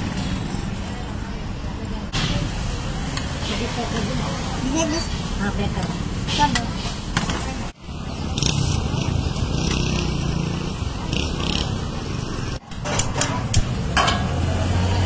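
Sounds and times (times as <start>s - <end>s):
traffic noise: 0.0s - 15.0s
voices: 0.2s - 15.0s.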